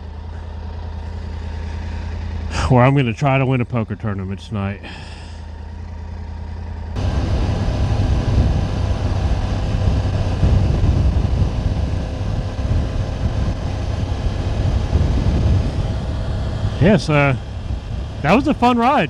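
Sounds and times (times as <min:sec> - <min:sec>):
motorcycle engine running: 0:00.0 - 0:19.0
rushing riding noise: 0:00.0 - 0:19.0.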